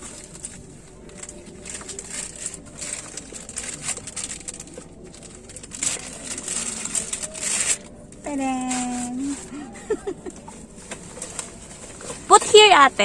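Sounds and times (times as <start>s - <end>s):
packaging rustling and crinkling: 0.0s - 9.5s, 10.3s - 13.0s.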